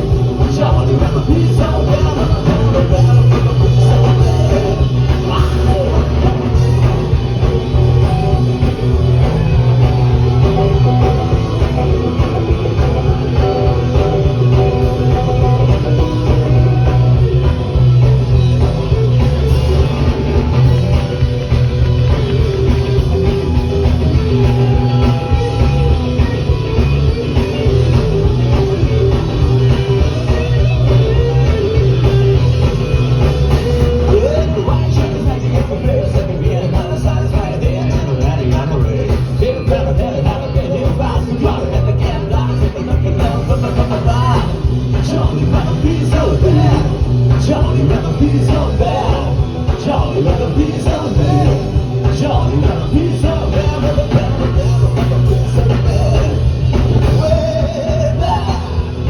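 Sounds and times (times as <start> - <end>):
drum kit: 0.0 - 59.0
electric guitar: 0.0 - 59.0
heavy bass line: 0.0 - 59.0
live rockabilly band: 0.0 - 59.0.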